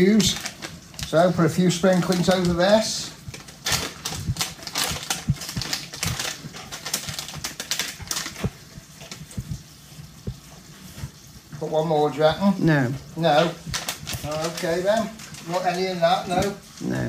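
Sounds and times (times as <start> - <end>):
plastic sachet crinkling: 0.0 - 11.8, 12.5 - 17.0.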